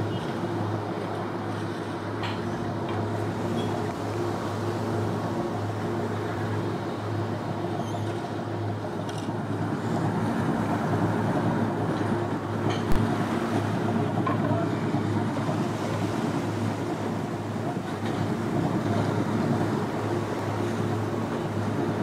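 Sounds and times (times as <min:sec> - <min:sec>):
boat diesel engine droning: 0:00.0 - 0:22.0.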